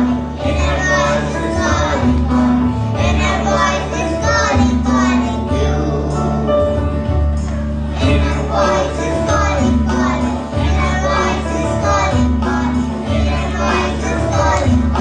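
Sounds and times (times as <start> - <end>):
children singing in unison: 0.0 - 6.2, 7.9 - 15.0
music accompaniment: 0.0 - 15.0.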